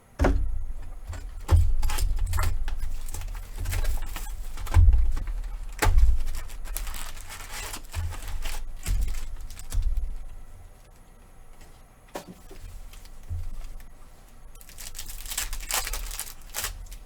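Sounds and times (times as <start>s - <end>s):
card packs rustling: 0.0s - 17.0s.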